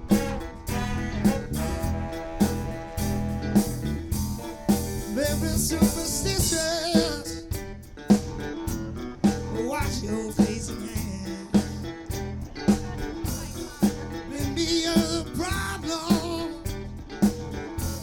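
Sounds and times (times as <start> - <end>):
wavering lead line: 0.0 - 16.2
drum kit hits: 0.0 - 18.0
soul band playing: 0.0 - 18.0.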